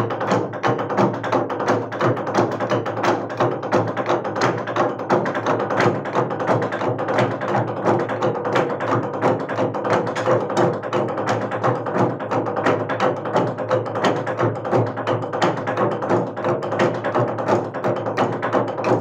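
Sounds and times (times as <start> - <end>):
log drum beaten with wooden beaters: 0.0 - 19.0.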